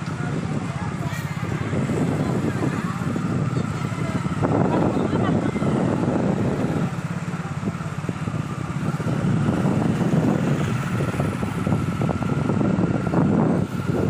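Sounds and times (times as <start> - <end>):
diesel bus engine rumbling: 0.0 - 14.0.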